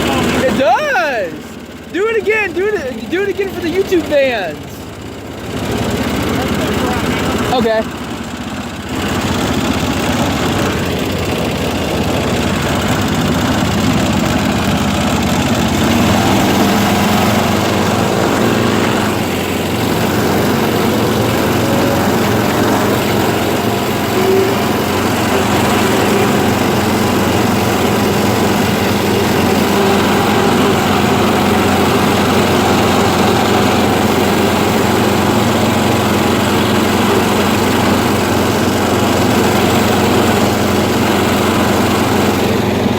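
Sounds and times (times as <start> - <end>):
off-road vehicle engine droning: 0.0 - 42.9.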